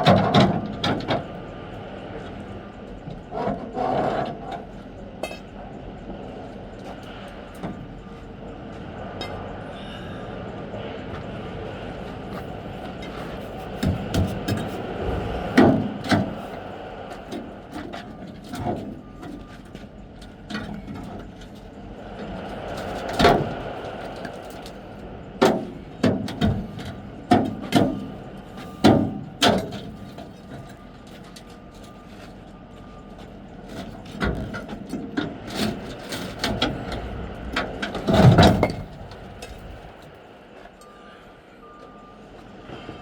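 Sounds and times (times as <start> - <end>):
steady background rumble: 0.0 - 43.0.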